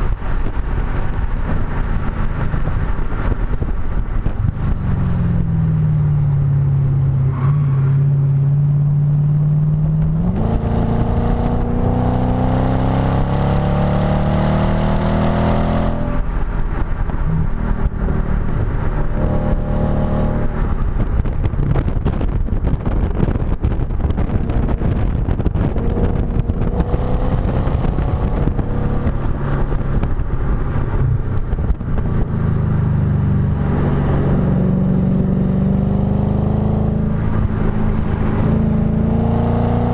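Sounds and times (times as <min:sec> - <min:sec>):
car engine accelerating: 0:00.0 - 0:39.9
wind buffeting microphone: 0:00.0 - 0:39.9.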